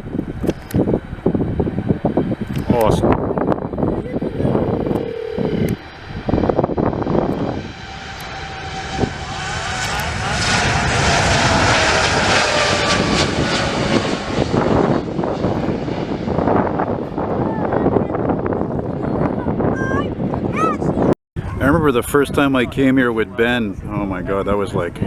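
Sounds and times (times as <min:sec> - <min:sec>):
jet engines passing: 0:00.0 - 0:21.1.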